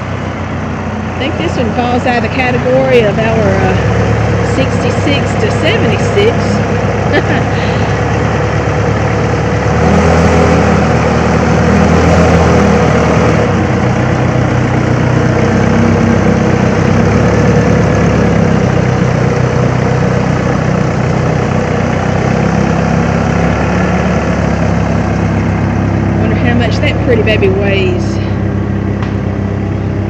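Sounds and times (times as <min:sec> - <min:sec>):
vehicle engine idling: 0:00.0 - 0:30.0.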